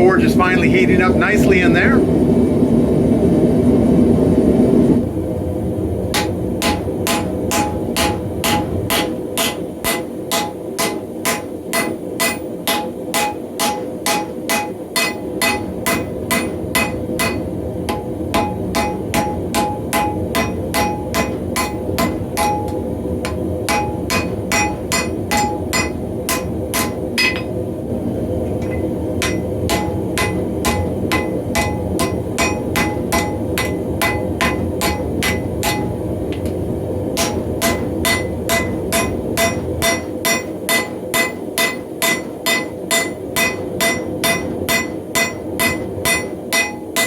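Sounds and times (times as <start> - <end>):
hammer ringing on anvil: 6.2 - 27.5, 28.6 - 36.0, 37.2 - 47.0.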